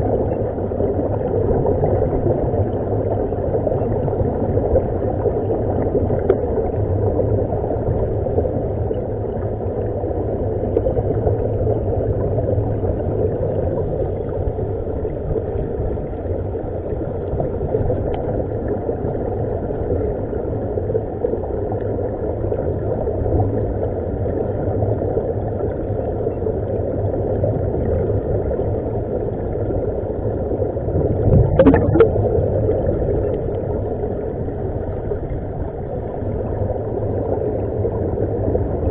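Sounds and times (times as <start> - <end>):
underwater air bubbles rumbling: 0.0 - 38.9.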